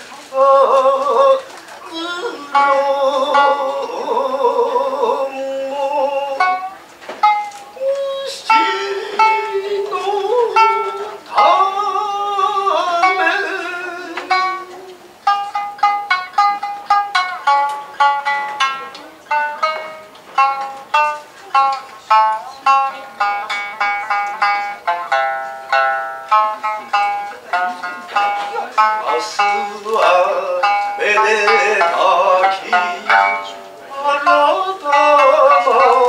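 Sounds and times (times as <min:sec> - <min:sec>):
plucked shamisen: 0:00.0 - 0:36.0
person singing wavering notes: 0:00.3 - 0:23.4, 0:24.0 - 0:36.0.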